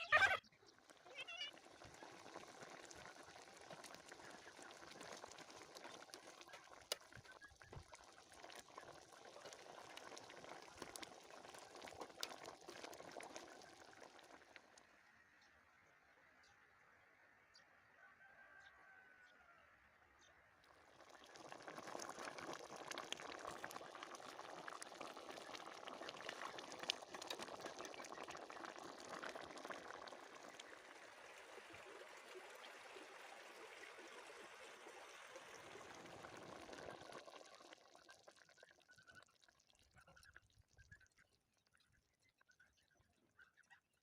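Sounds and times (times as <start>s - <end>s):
liquid bubbling: 0.0s - 15.0s, 20.6s - 43.1s.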